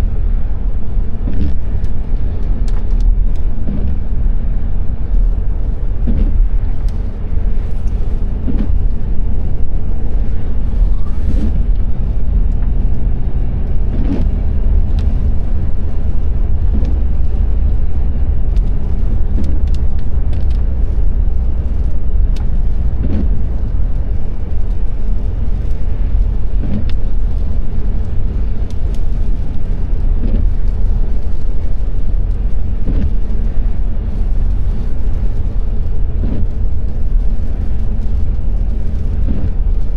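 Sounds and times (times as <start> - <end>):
faint tyre swish on wet road: 0.0 - 39.9
road and engine rumble: 0.0 - 39.9.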